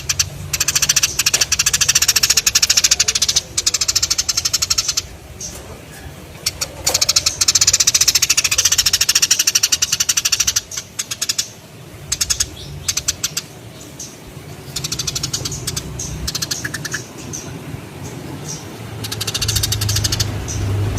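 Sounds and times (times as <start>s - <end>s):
sparrows chirping: 0.0s - 20.9s.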